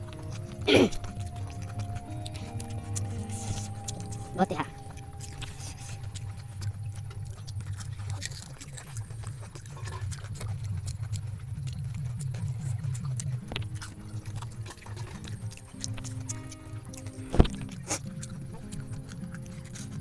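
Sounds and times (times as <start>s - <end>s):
crunchy chewing close-up: 0.0s - 20.0s.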